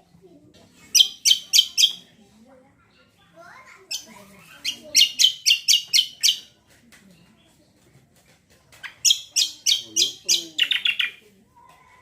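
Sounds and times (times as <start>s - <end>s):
songbird chirping: 0.1s - 3.2s, 3.8s - 12.0s.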